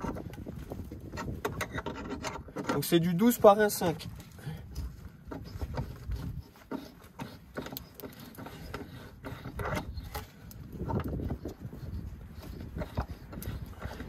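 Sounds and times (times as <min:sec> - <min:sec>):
thread tap scraping metal: 0:00.0 - 0:03.5, 0:04.8 - 0:14.0.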